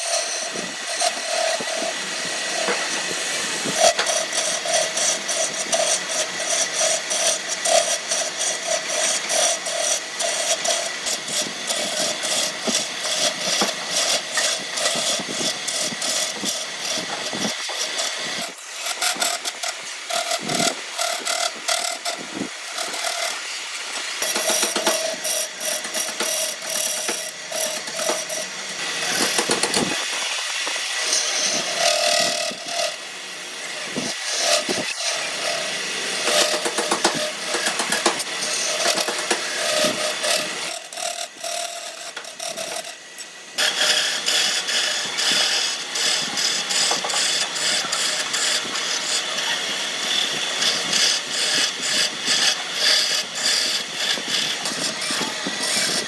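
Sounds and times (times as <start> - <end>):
power tools working wood: 0.0 - 56.0.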